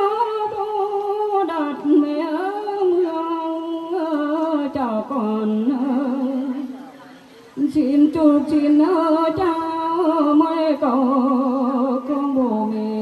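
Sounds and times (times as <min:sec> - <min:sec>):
woman singing folk song: 0:00.0 - 0:06.7, 0:07.6 - 0:13.0.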